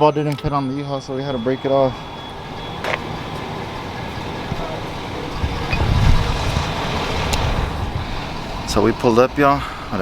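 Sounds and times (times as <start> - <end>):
road traffic noise: 0.4 - 10.0
motor vehicle rumble: 1.4 - 10.0.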